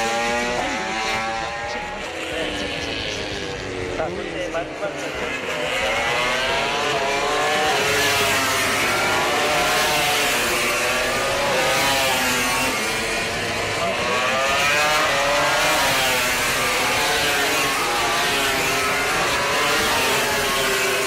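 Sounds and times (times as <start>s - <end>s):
racing motorcycles revving past: 0.0s - 21.0s.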